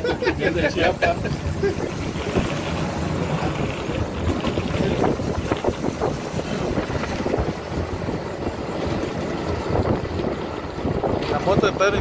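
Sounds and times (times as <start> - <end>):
vehicle running noise: 0.0 - 12.0
wind buffeting microphone: 0.0 - 12.0.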